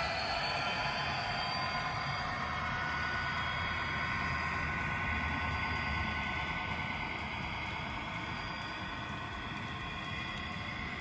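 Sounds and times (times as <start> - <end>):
model locomotive engine hum: 0.0 - 11.0
model train rolling on track: 0.0 - 11.0.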